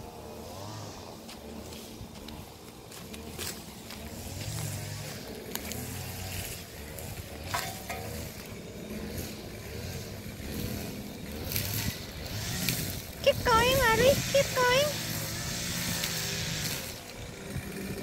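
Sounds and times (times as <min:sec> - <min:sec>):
puppy paws scratching sand: 0:01.2 - 0:17.2.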